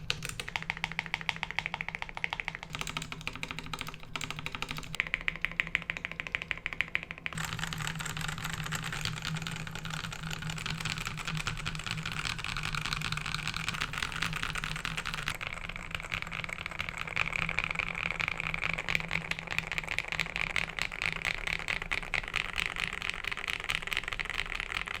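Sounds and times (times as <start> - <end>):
fast typing on mechanical keyboard: 0.0 - 25.0.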